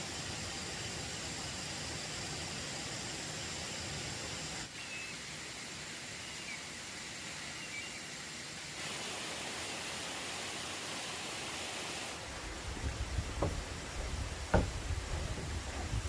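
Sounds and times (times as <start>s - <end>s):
outdoor rushing hiss: 0.0s - 16.0s.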